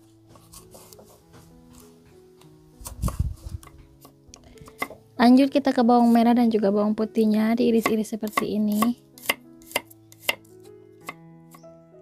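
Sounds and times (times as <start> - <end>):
soft sustained background music: 0.0 - 12.0.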